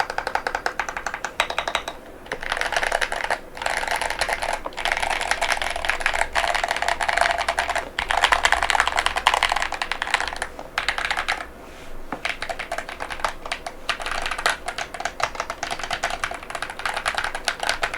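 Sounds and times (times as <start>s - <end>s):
fast typing on mechanical keyboard: 0.0s - 11.5s, 12.2s - 17.9s.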